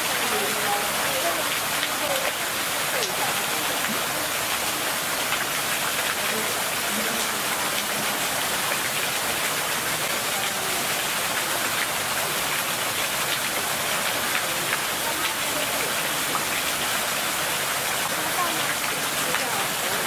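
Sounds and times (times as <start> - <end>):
hiss of running water: 0.0 - 20.0.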